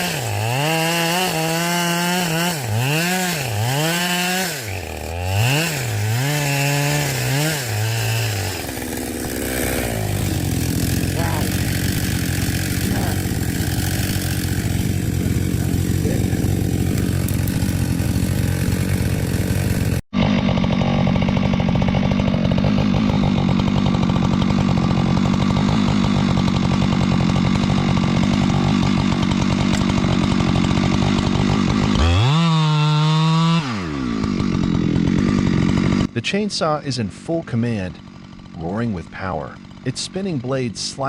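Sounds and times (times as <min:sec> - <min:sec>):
chainsaw cutting wood: 0:00.0 - 0:36.2, 0:37.3 - 0:40.8.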